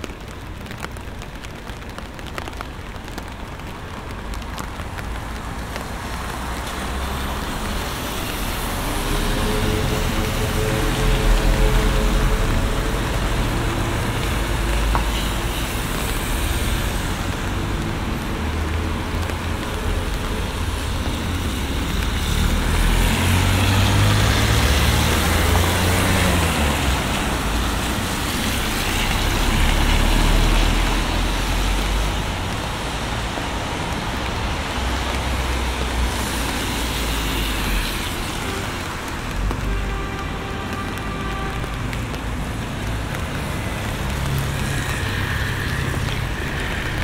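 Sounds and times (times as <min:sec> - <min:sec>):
falling rain: 0:00.0 - 0:47.0
vehicles hissing by on wet road: 0:00.0 - 0:47.0.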